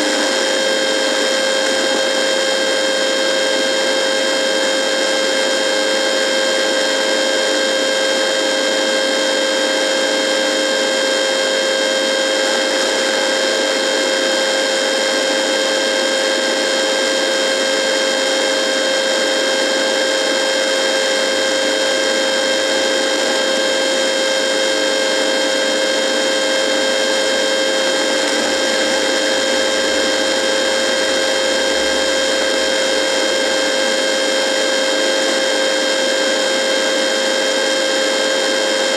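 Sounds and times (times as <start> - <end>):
electrical radio buzz: 0.0 - 38.9.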